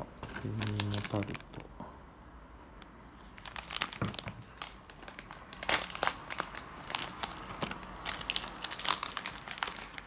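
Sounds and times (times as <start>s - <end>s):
plastic wrappers crinkling: 0.2s - 1.7s, 3.2s - 10.0s.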